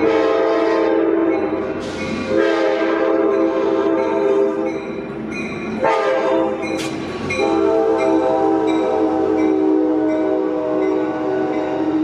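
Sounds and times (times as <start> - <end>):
locomotive air horn blasts: 0.0 - 1.5, 2.3 - 4.7, 5.8 - 12.0.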